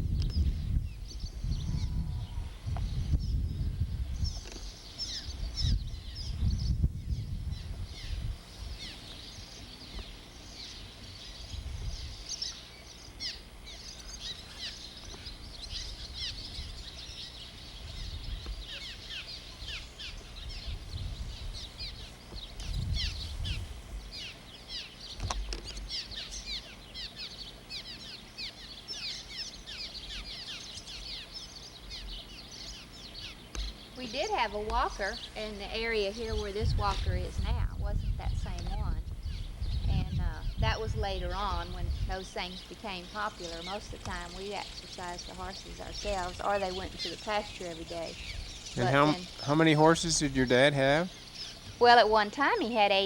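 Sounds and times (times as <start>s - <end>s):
low rumbling noise: 0.0s - 52.9s
small birds chirping: 0.0s - 53.0s.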